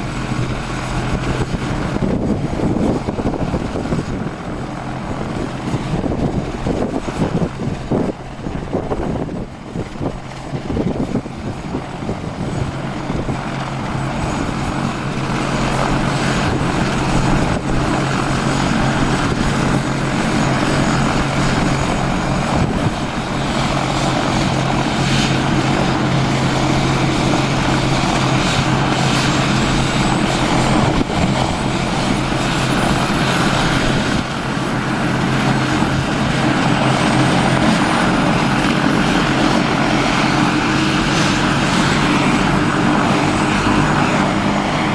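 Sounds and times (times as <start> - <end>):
helicopter rotor and turbine drone: 0.0 - 44.9
high turbine whine: 0.0 - 44.9.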